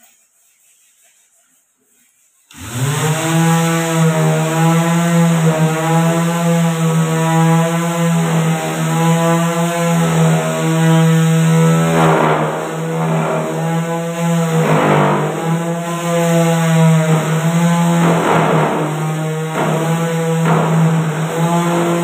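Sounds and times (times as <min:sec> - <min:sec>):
circular saw cutting wood: 0:02.4 - 0:22.0.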